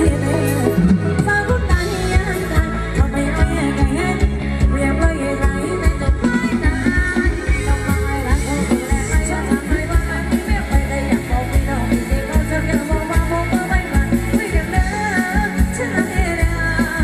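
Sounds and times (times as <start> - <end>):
live band playing dance music: 0.0 - 17.0
person singing: 0.0 - 17.0.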